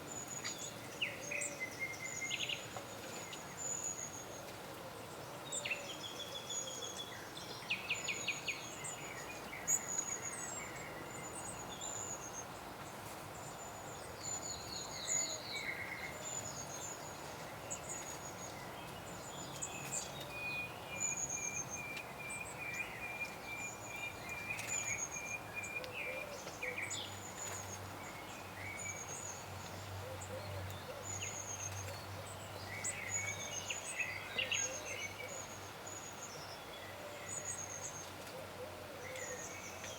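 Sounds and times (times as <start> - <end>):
songbirds chirping and trilling: 0.0 - 39.9
steady outdoor hiss: 0.0 - 39.9.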